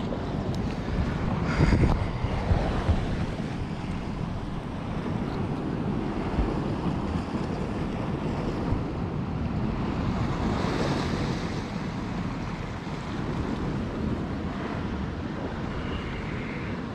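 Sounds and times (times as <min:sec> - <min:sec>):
sea waves: 0:00.0 - 0:16.9
wind buffeting microphone: 0:00.0 - 0:16.9.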